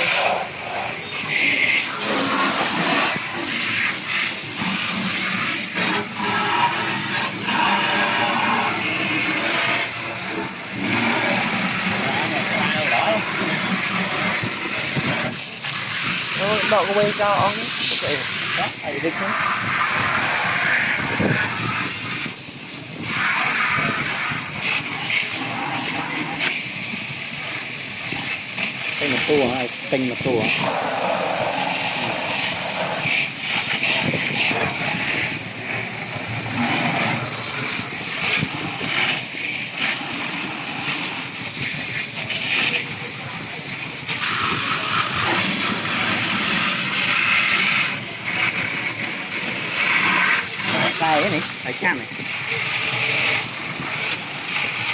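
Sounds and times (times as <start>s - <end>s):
running water splashing: 0.0s - 54.9s
steady loud hissing rush: 0.0s - 54.9s.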